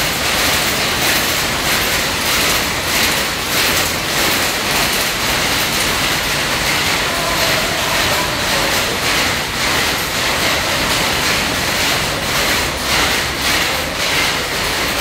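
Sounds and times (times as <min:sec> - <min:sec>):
powerlooms clattering: 0:00.0 - 0:15.0.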